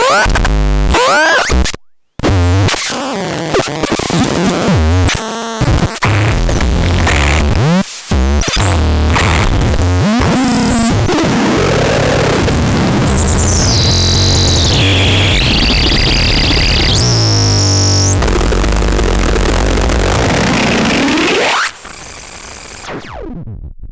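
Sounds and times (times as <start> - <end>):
harsh noisy synthesizer tones: 0.0 - 23.6.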